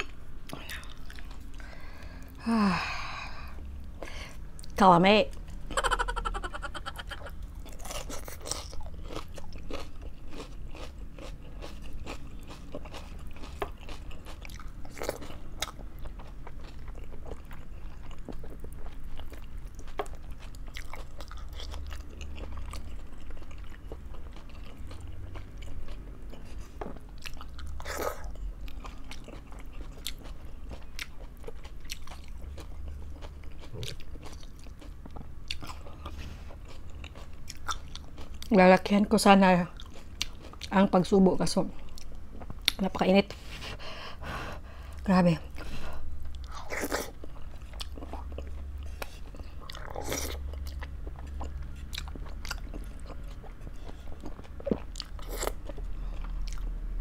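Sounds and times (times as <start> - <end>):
chewing and biting food: 0.0 - 1.7, 4.6 - 38.6, 39.6 - 40.8, 44.8 - 57.0
steady low hum: 0.0 - 57.0.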